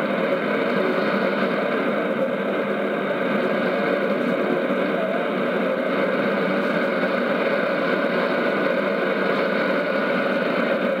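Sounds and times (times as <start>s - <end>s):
shortwave radio static and hiss: 0.0s - 11.0s.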